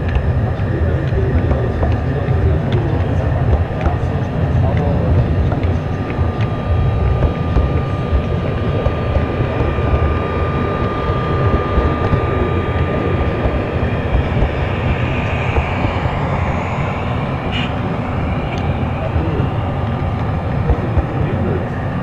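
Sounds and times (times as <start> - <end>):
rising whine: 0.0 - 22.0
thin steady whine: 0.0 - 22.0.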